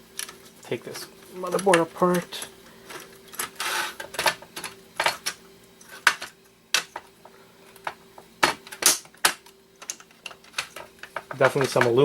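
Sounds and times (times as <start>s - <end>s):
clicks and knocks of parts: 1.4s - 7.1s, 7.7s - 12.0s.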